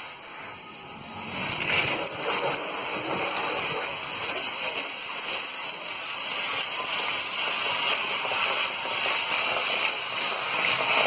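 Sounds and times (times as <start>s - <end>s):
foam spray hissing: 0.0s - 11.0s.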